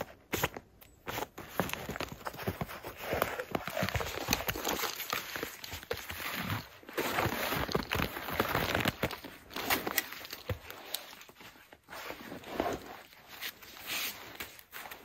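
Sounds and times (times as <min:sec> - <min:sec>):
clothing and gear rustling: 0:00.0 - 0:15.0.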